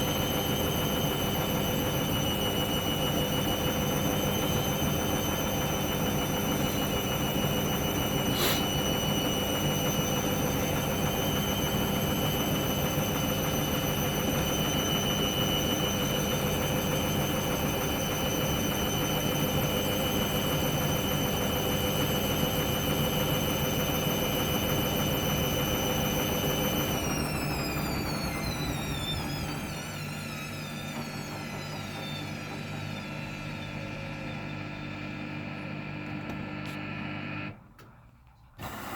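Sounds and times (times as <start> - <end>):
washing machine spinning: 0.0 - 37.7.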